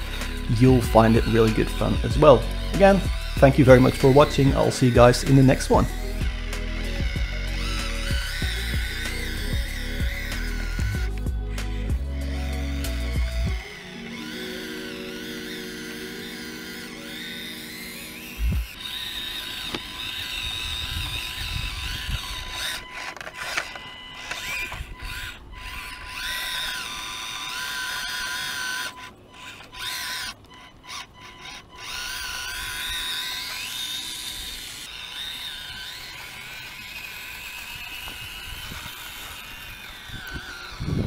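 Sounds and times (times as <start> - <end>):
small electric motor whining: 0.0 - 41.0.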